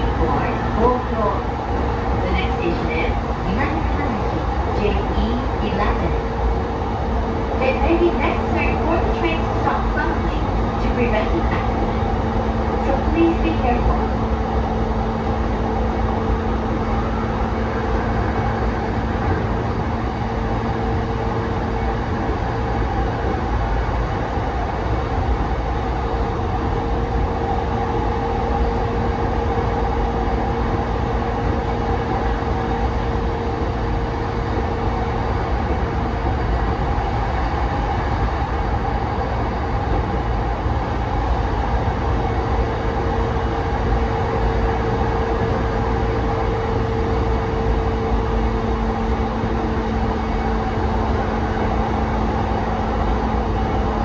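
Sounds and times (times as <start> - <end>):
train humming tones: 0.0 - 54.0
wheels rumbling on rail: 0.0 - 54.0.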